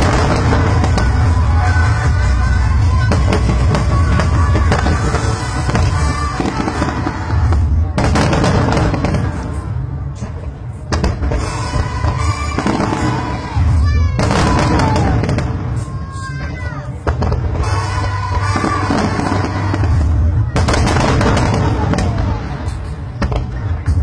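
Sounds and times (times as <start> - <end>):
crowd voices: 0.0 - 24.0
fireworks booming and crackling: 0.0 - 24.0
music: 0.0 - 24.0.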